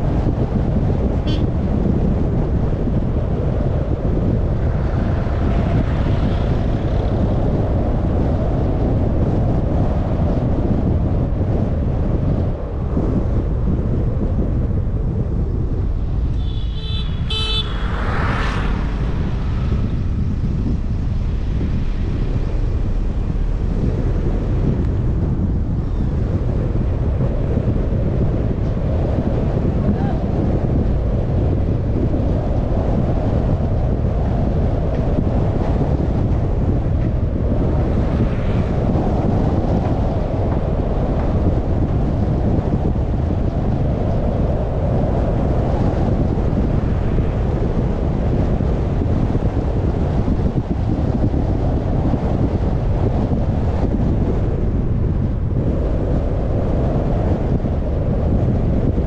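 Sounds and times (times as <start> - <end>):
car road rumble: 0.0 - 59.0
wind noise on microphone: 0.0 - 59.0.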